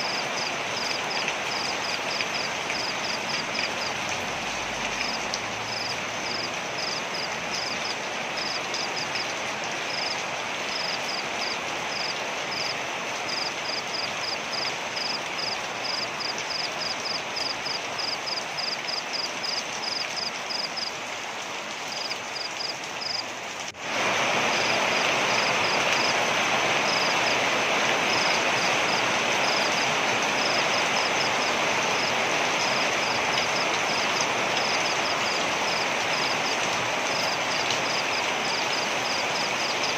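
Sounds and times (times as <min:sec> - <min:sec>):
waterfall rushing water: 0:00.0 - 0:20.3, 0:21.0 - 0:39.9.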